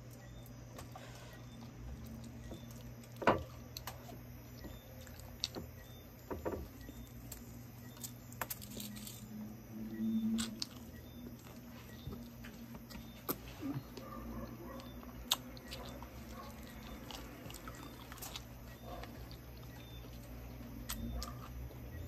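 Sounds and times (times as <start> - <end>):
wet chewing and crackles: 0.0 - 22.0.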